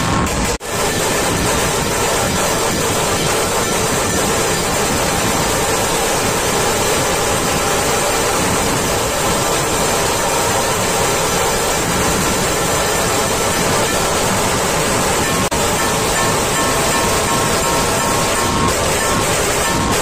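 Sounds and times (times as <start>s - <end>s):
massed drums beaten with sticks: 0.0s - 20.0s.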